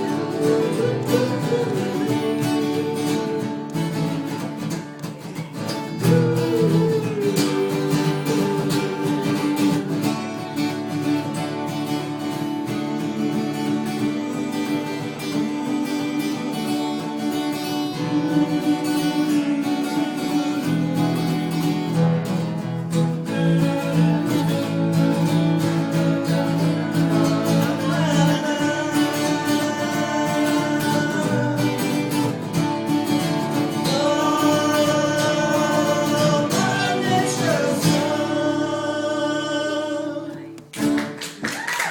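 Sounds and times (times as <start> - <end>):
person singing: 0.0 - 40.7
acoustic guitar picked and strummed: 0.0 - 41.9.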